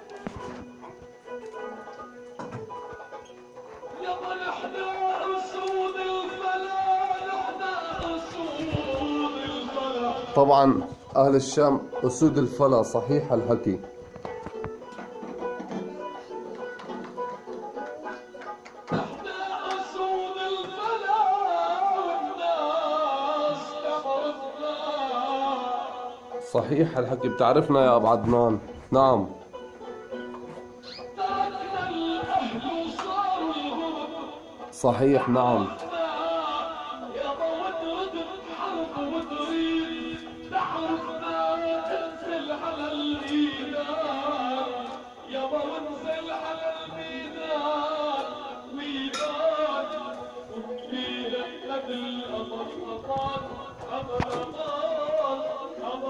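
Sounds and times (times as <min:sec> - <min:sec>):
instrumental accompaniment: 0:00.0 - 0:56.0
person singing ornamented melody: 0:00.0 - 0:56.0.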